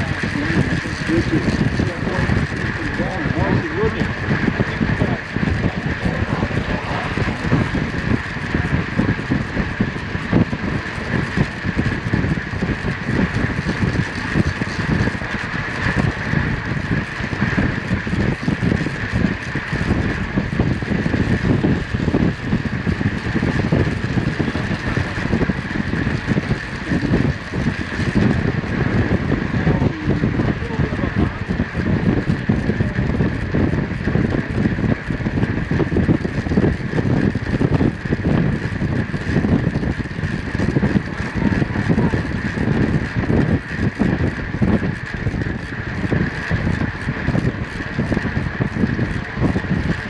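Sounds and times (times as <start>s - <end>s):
steady high hum: 0.0s - 50.0s
wind buffeting microphone: 0.0s - 50.0s.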